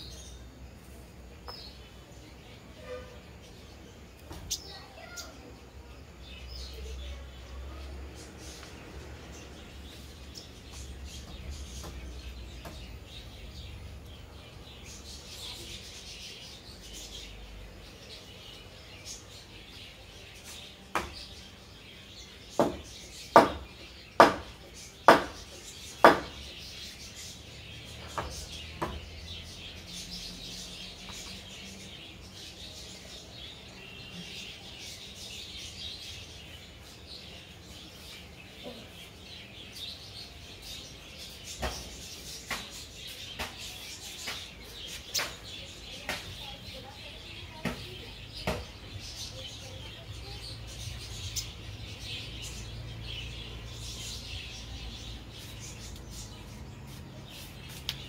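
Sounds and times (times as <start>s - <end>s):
birds chirping faintly: 0.0s - 58.0s.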